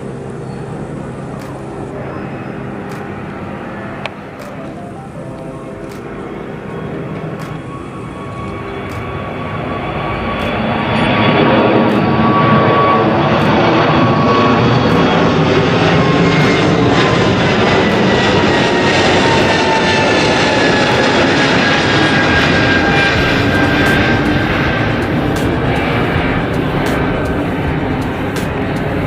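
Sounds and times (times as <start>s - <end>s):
airliner engines roaring: 0.0s - 29.0s
thin engine whine falling in pitch: 0.0s - 29.0s.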